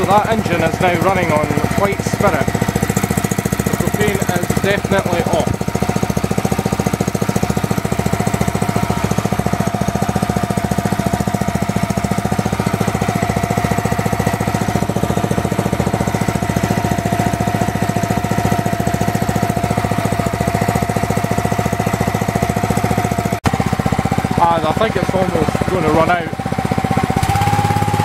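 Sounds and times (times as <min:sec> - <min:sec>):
small petrol engine running: 0:00.0 - 0:28.0.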